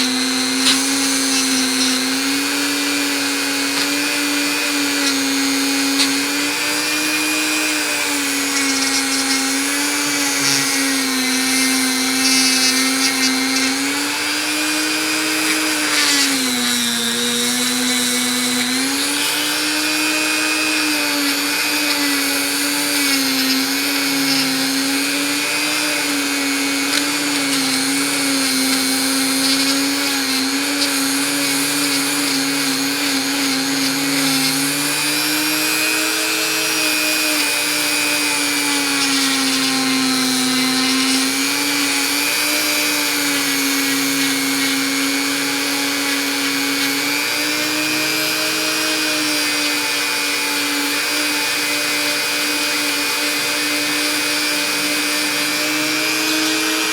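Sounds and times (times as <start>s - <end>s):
rotary tool whining: 0.0s - 56.9s.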